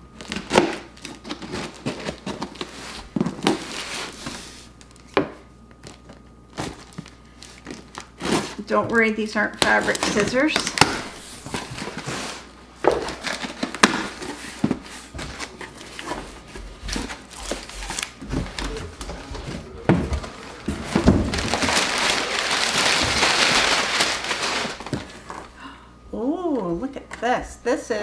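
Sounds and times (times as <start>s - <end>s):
packaging rustling: 0.2s - 5.1s, 5.7s - 9.0s, 9.6s - 25.5s.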